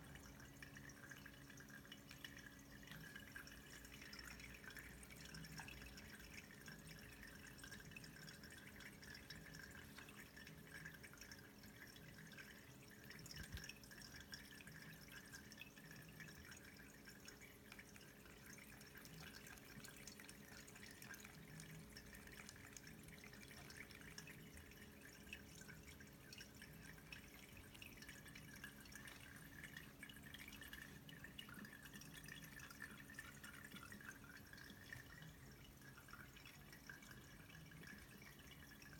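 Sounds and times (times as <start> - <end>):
low steady hum: 0.0 - 38.9
water trickling and dripping: 0.0 - 38.9.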